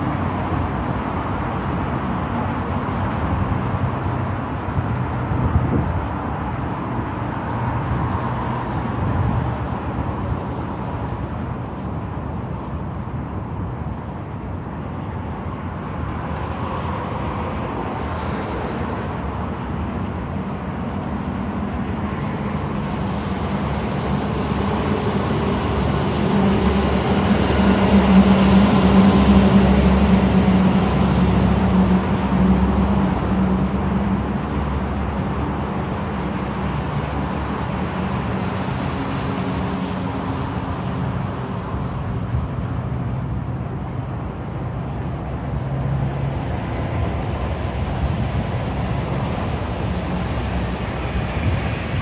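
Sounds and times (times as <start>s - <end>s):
city traffic noise: 0.0s - 52.0s
vehicle engine hum: 0.0s - 52.0s.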